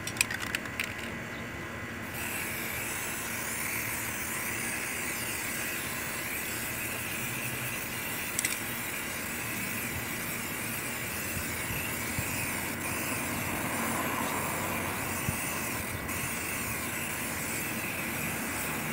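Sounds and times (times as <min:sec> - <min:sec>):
steady low hum: 0:00.0 - 0:18.9
aerosol spray can hissing: 0:02.2 - 0:18.9.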